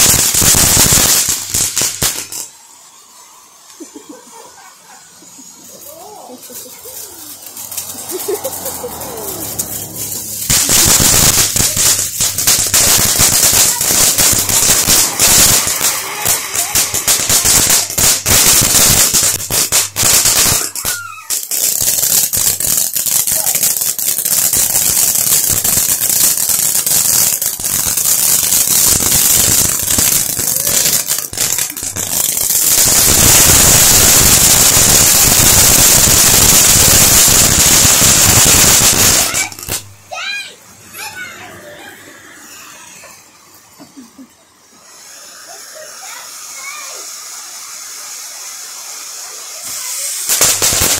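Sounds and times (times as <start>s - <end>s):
firework crackling pops: 0.0s - 41.4s, 44.6s - 50.9s
firework fountain hissing: 0.0s - 50.9s.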